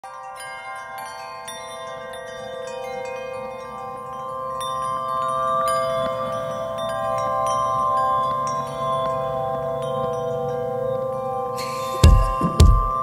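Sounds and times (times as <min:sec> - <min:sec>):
metallic chimes ringing: 0:00.0 - 0:13.0.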